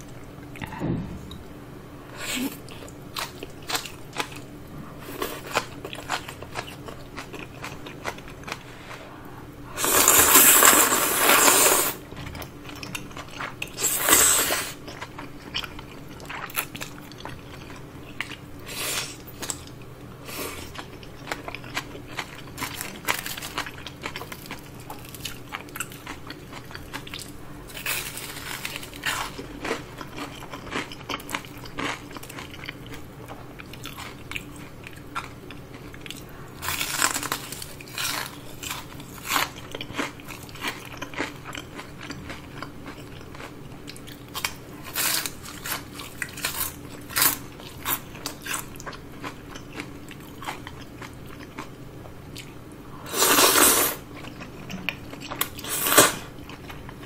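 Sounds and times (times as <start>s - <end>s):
chewing and crunching food: 2.5s - 9.2s, 9.8s - 57.0s.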